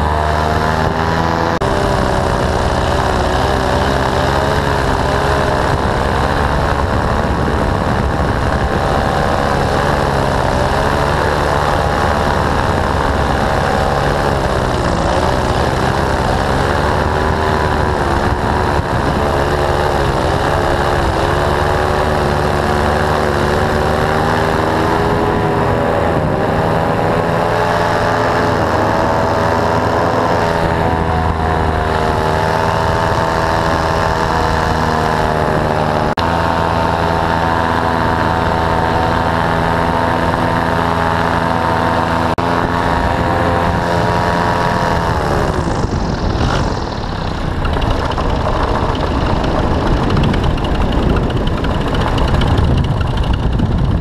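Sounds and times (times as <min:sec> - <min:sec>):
paramotor engine running: 0:00.0 - 0:54.0
rushing wind: 0:00.0 - 0:54.0.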